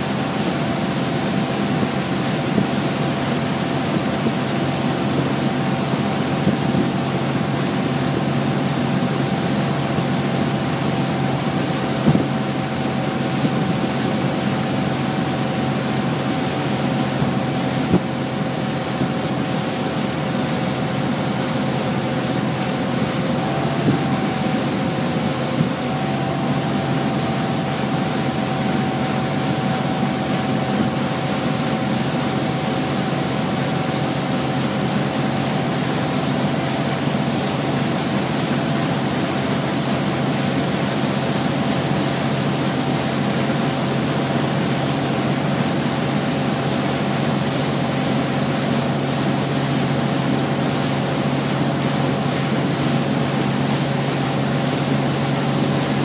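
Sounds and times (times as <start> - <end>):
motorboat engine running: 0.0 - 56.0
rushing wake water and wind: 0.0 - 56.0.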